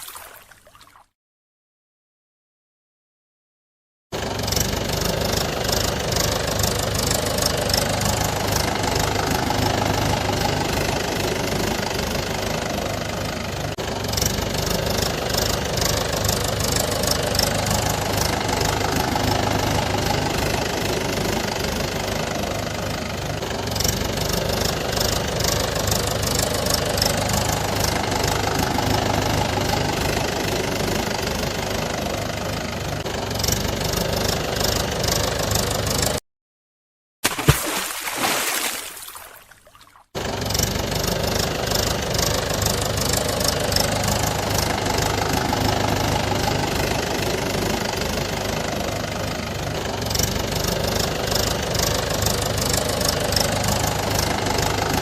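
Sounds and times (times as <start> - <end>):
truck engine idling: 4.2 - 36.2, 40.2 - 55.0.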